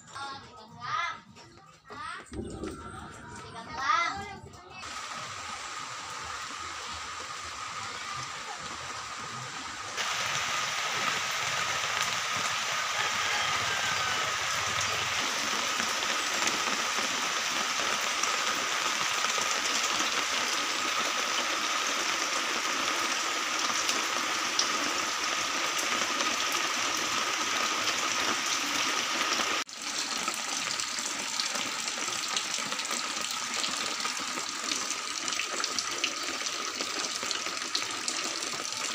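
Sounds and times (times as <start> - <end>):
rain hissing: 4.7 - 38.9.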